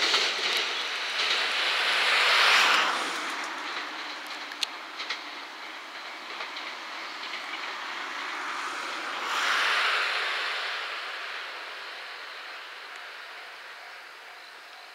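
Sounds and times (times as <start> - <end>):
rail joint clicks: 0.0 - 9.3, 10.1 - 14.9
train wheels on rails: 0.0 - 14.9.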